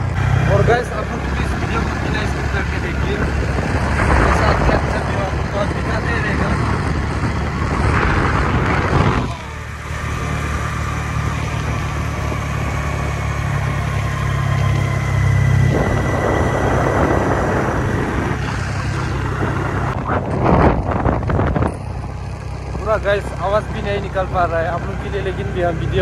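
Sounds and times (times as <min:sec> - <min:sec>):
wind gusts on microphone: 0:00.0 - 0:22.3
motor scooter engine humming: 0:00.0 - 0:26.0.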